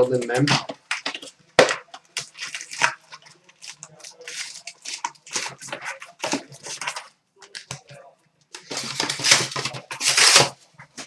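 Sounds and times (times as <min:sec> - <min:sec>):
wrappers crinkling and rustling: 0:00.0 - 0:11.0.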